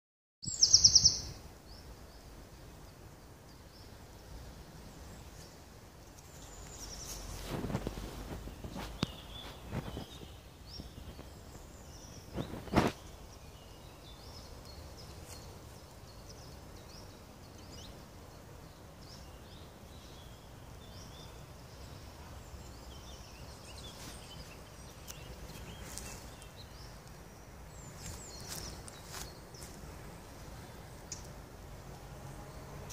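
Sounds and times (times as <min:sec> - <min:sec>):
songbirds singing and chirping: 0:00.4 - 0:32.9.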